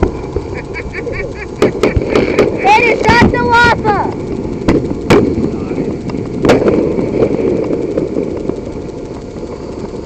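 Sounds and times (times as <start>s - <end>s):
fireworks exploding: 0.0s - 0.7s, 1.3s - 10.0s
low background rumble: 0.0s - 10.0s.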